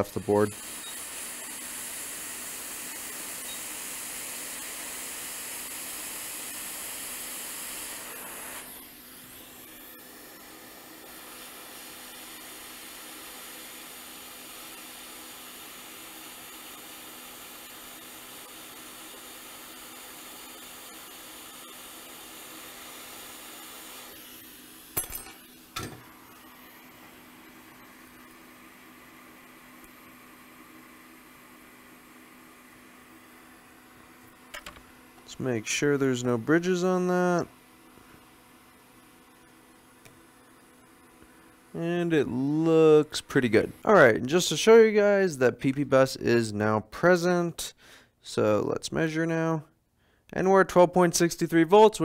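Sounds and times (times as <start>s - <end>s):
hot air station blowing: 0.0s - 25.0s, 25.6s - 44.6s.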